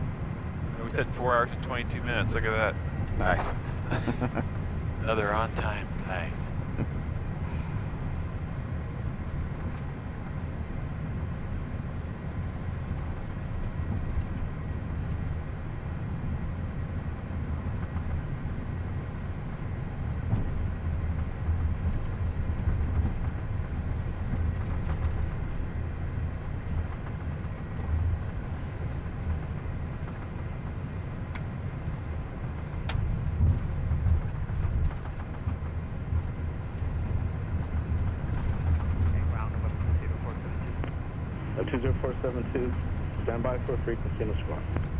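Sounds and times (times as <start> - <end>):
aircraft low rumble: 0.0 - 44.9.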